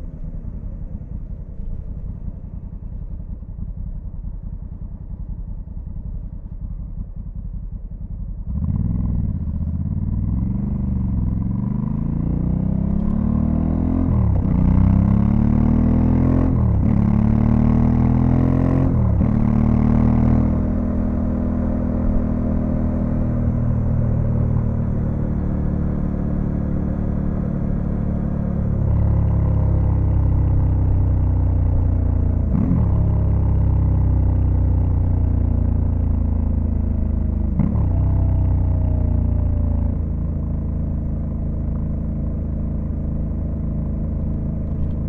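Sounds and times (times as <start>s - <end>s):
motorcycle engine accelerating: 0.0s - 45.0s.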